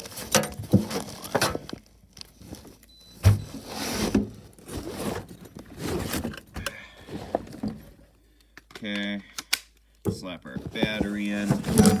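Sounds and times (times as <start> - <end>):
rustling and scraping: 0.0 - 8.2, 10.1 - 12.0.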